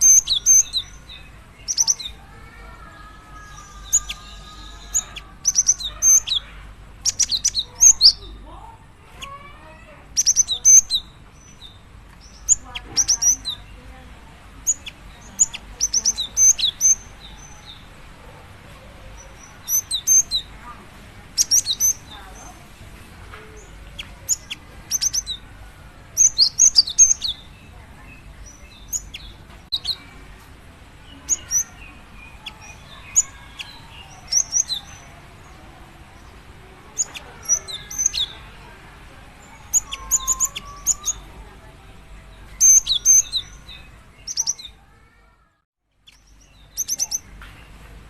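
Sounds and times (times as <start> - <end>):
bird high-pitched calls: 0.0 - 13.9, 14.6 - 18.0, 18.7 - 22.6, 23.3 - 25.5, 26.1 - 27.8, 28.4 - 30.1, 31.1 - 35.6, 36.2 - 38.8, 39.4 - 41.4, 42.4 - 44.8, 46.0 - 47.3
faint lower bird twittering: 0.0 - 18.0, 18.7 - 30.3, 31.0 - 38.8, 39.4 - 41.5, 42.2 - 45.4, 46.0 - 47.8.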